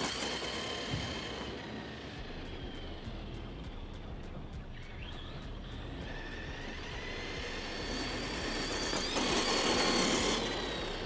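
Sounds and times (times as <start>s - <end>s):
electric motor whine: 0.0s - 4.2s, 4.8s - 11.0s
tyres on asphalt: 0.0s - 11.0s.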